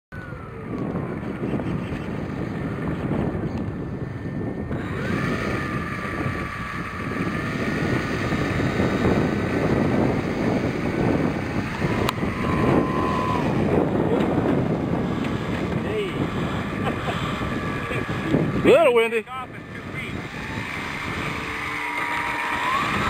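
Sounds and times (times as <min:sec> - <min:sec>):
model plane motor whine: 0:00.1 - 0:23.0
wind buffeting microphone: 0:00.1 - 0:23.0.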